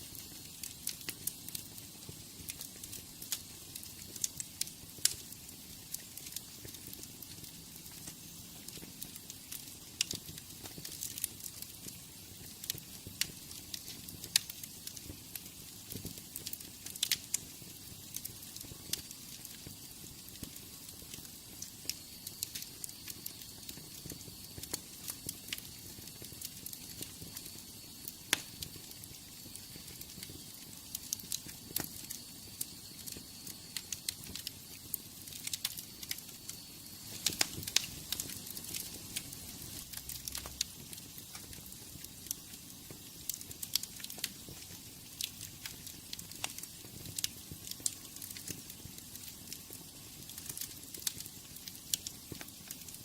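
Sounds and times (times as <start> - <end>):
fire crackling and popping: 0.0 - 53.0
hiss of flames: 0.0 - 53.0.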